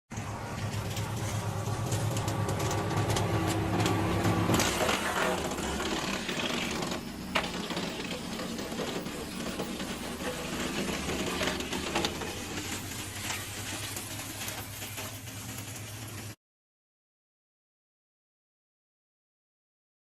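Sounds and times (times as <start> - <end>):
wood chipper running: 0.1 - 16.4.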